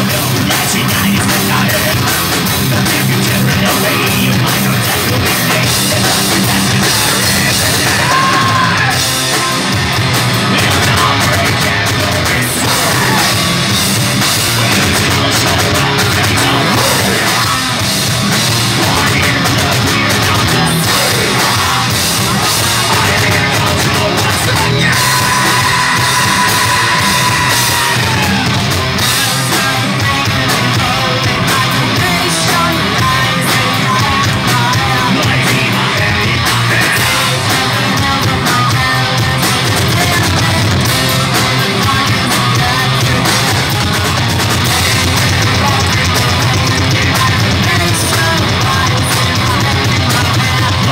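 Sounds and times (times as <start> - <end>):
heavy metal band playing: 0.0 - 50.9
man and woman singing and shouting: 0.0 - 50.9.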